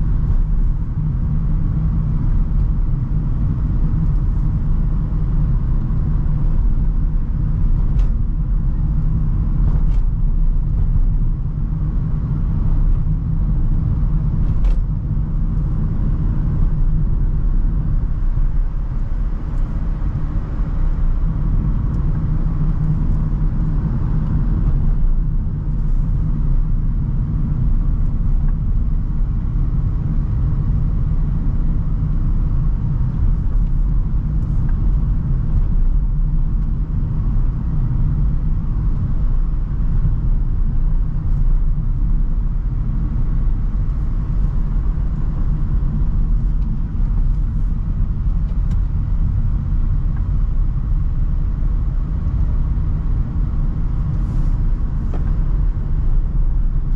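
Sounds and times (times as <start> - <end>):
road noise: 0.0 - 56.9
van engine rumble: 0.0 - 56.9.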